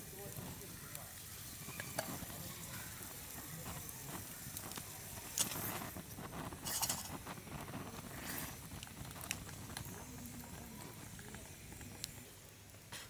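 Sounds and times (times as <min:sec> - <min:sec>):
campfire crackling: 0:00.0 - 0:13.0
campfire popping: 0:00.0 - 0:13.0.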